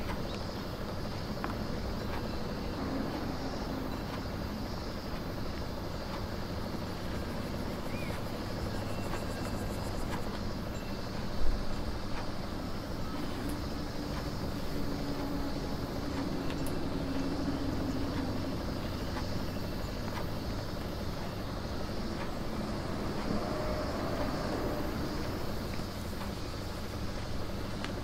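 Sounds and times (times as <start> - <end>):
faint ticks: 0.0 - 28.0
low background rumble: 0.0 - 28.0.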